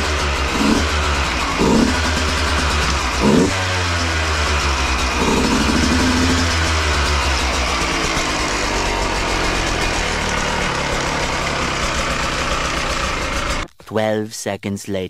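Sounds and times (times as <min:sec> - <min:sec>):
two-stroke motorcycle idling: 0:00.0 - 0:13.7.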